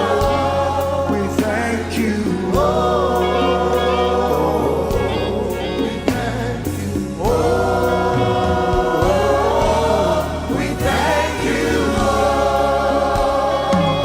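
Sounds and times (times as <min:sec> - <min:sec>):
choir singing gospel: 0:00.0 - 0:14.0
steady bass: 0:00.0 - 0:14.0.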